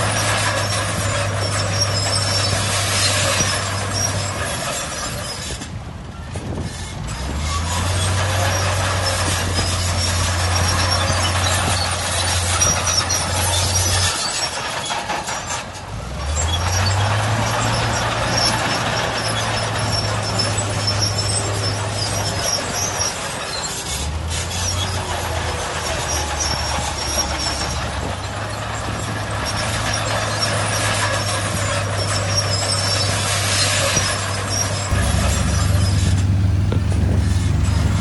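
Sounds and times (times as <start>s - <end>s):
high metallic squealing: 0.0s - 5.7s, 6.4s - 38.0s
heavy diesel engine under load: 0.0s - 38.0s.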